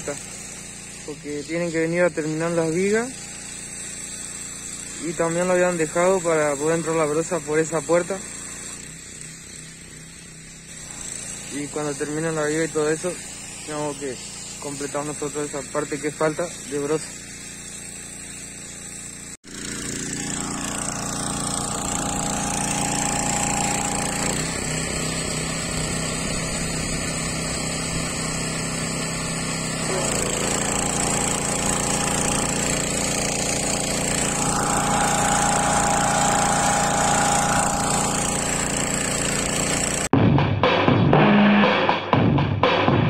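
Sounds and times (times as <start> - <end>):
small engine running: 0.0 - 40.1.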